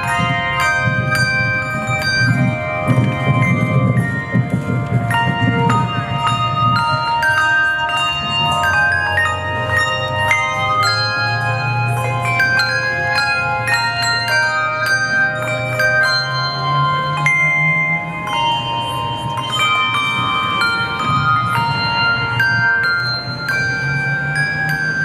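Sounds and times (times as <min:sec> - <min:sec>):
handbells ringing a tune: 0:00.0 - 0:25.0.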